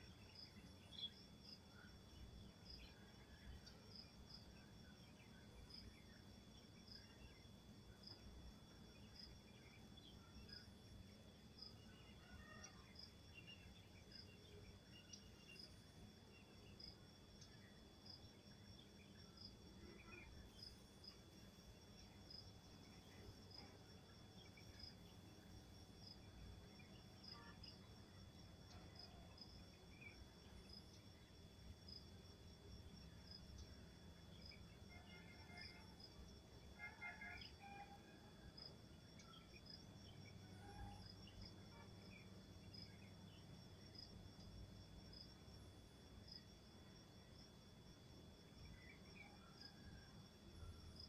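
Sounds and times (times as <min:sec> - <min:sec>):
insect regular high chirp: 0:00.0 - 0:51.0.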